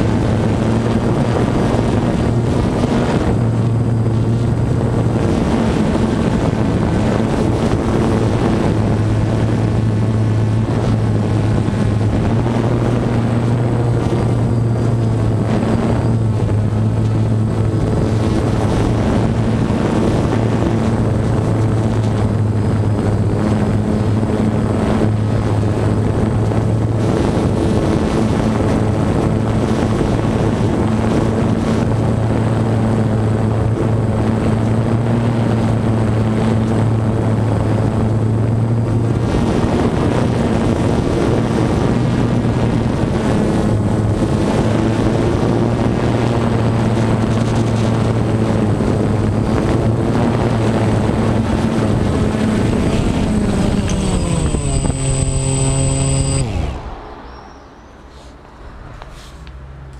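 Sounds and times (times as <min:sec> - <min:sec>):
drone propellers buzzing: 0:00.0 - 0:59.5.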